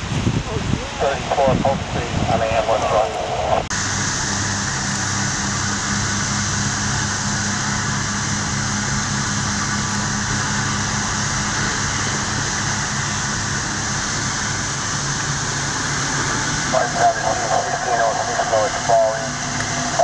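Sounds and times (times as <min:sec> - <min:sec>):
boat engines droning: 0:00.0 - 0:20.0.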